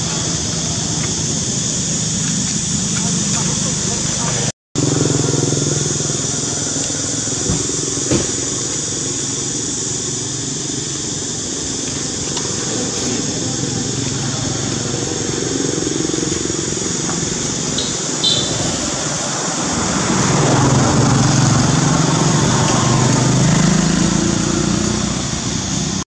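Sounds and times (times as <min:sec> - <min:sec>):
low motor drone: 0:00.0 - 0:25.9
high hiss: 0:00.0 - 0:26.0.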